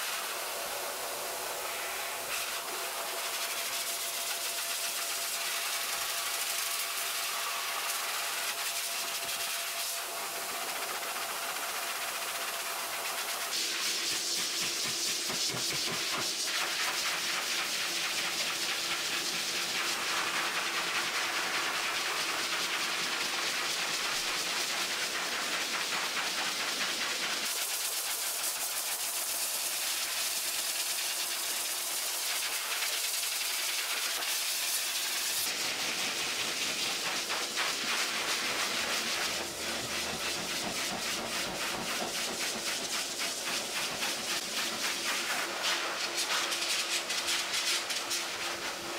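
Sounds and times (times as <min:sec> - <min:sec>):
dog dryer blasting air: 0:00.0 - 0:48.9.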